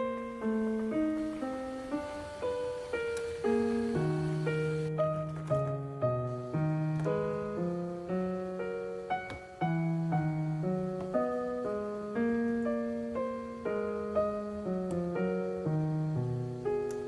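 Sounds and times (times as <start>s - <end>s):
calm piano music: 0.0s - 17.0s.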